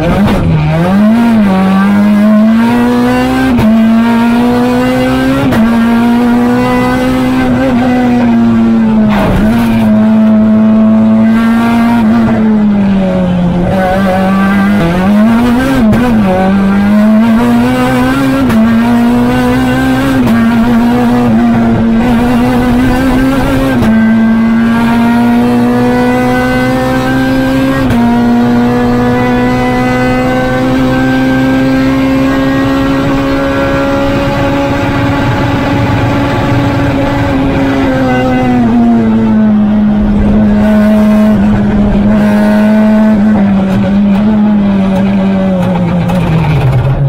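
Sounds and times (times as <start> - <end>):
rally car engine under load: 0.0 - 47.0.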